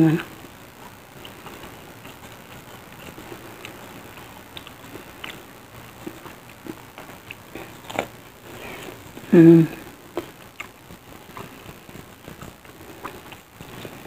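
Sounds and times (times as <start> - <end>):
mouth clicks: 0.0 - 14.0
chewing crispy fried food: 0.2 - 14.0.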